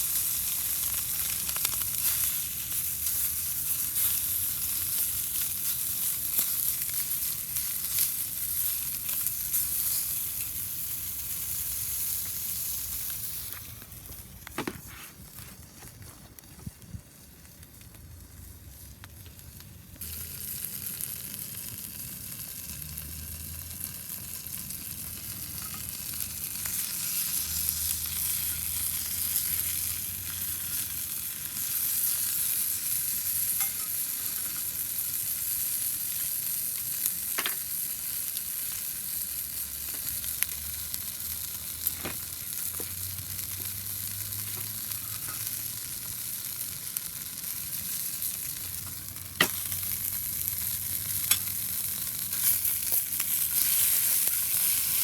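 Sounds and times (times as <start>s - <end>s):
food sizzling in a pan: 0.0s - 14.2s, 20.0s - 55.0s.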